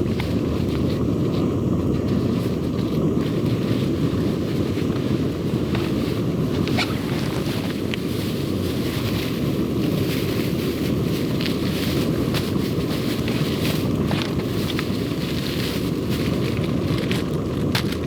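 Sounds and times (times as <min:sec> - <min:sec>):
campfire burning: 0:00.0 - 0:18.0
fire crackles and pops: 0:00.0 - 0:18.0.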